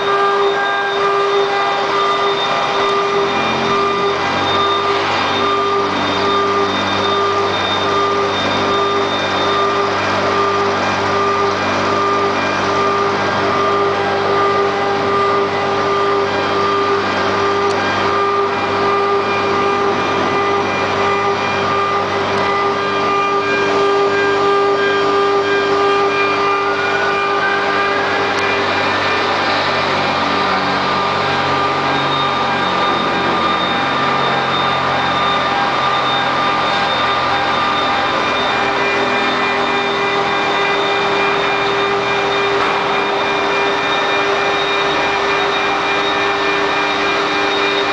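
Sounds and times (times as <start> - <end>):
router spindle whine: 0.0 - 47.9.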